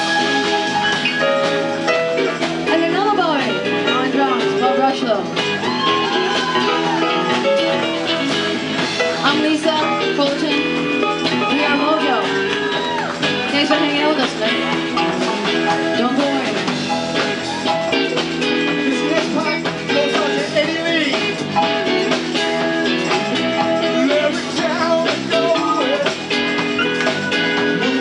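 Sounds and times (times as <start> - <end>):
electric guitar bent notes: 0.0 - 28.0
rhythm and blues band playing: 0.0 - 28.0.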